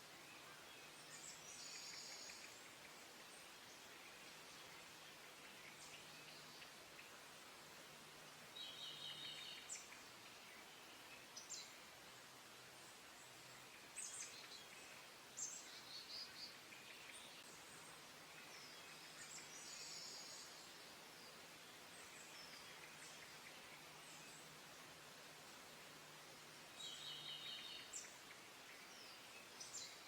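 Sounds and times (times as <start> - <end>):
steady background hiss: 0.0 - 30.0
small birds chirping and trilling: 0.1 - 7.3, 8.2 - 30.0.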